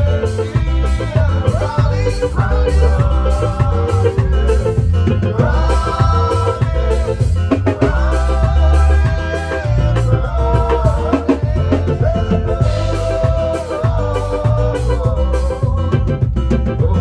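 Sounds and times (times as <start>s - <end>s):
driving drum beat: 0.0s - 17.0s
heavy bass: 0.0s - 17.0s
worship band playing hymn: 0.0s - 17.0s.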